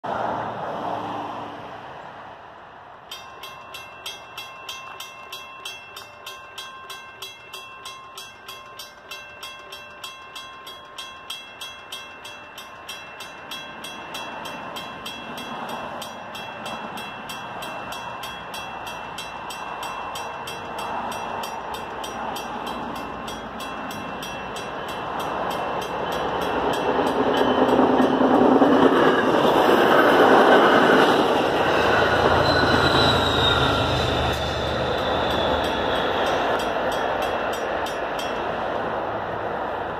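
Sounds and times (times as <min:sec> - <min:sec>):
train rumble: 0:00.0 - 0:39.9
railroad crossing bell ringing: 0:03.0 - 0:39.9.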